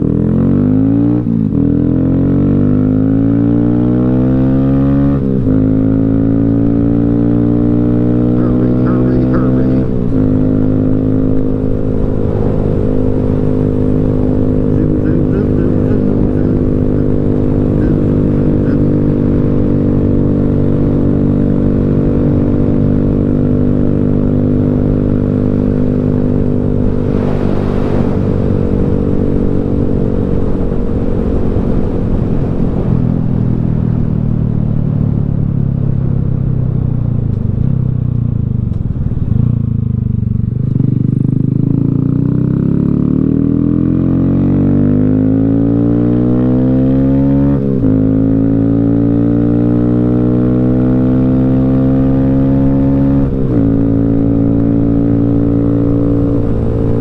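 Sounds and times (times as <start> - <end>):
motorcycle engine accelerating: 0.0 - 57.0
wind and road noise: 0.0 - 57.0.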